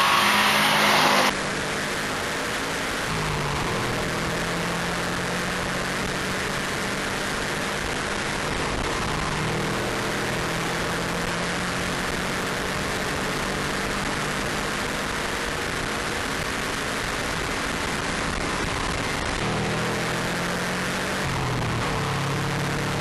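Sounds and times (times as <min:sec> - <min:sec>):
car engine at speed: 0:00.0 - 0:23.0
wind and road noise: 0:00.0 - 0:23.0.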